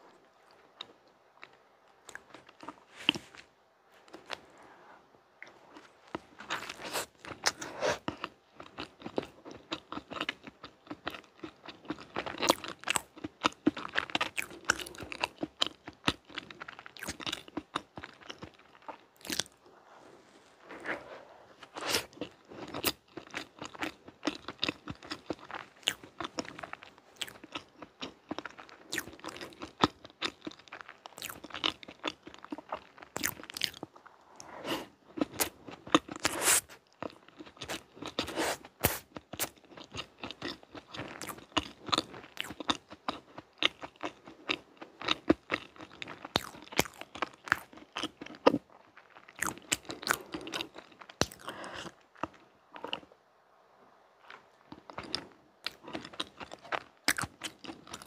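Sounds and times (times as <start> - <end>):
chewing and biting cake: 5.4 - 19.6, 20.7 - 53.1, 54.3 - 58.0.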